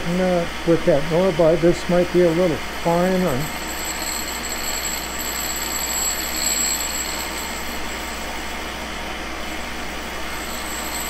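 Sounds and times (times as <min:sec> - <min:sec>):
grinder spindle whirring: 0:00.0 - 0:11.0
vacuum running: 0:00.0 - 0:11.0.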